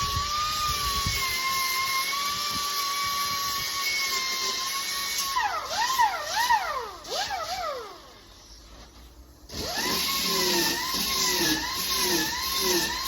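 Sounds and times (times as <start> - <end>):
grinder whining on metal: 0.0 - 13.0.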